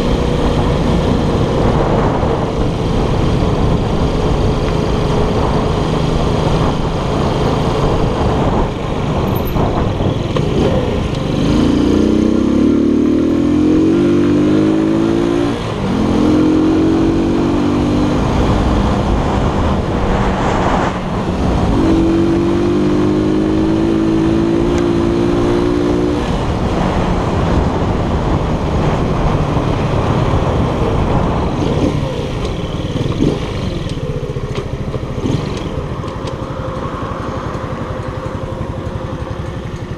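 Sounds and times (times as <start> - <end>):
moped engine accelerating: 0.0 - 39.9.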